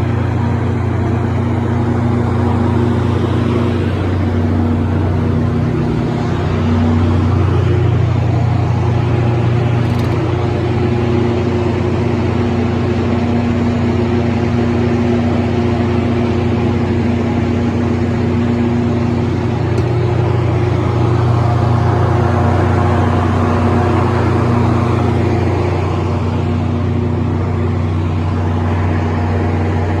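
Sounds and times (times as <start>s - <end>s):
diesel generator engine running: 0.0s - 30.0s.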